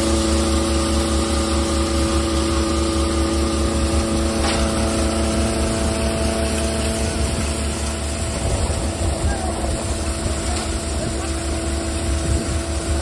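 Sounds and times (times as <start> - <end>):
low engine hum: 0.0 - 13.0
thresher mechanical drone: 0.0 - 13.0.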